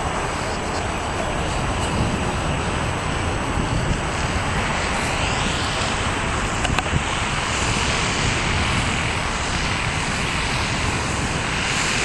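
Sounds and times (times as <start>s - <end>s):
model plane engines: 0.0s - 12.0s
wind rumbling on microphone: 0.0s - 12.0s.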